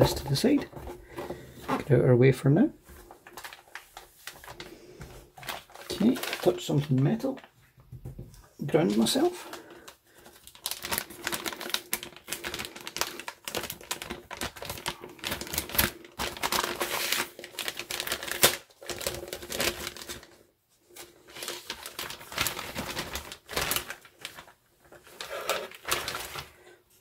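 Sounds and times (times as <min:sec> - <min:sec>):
anti-static bag crinkling: 0:02.9 - 0:07.7, 0:08.6 - 0:26.8.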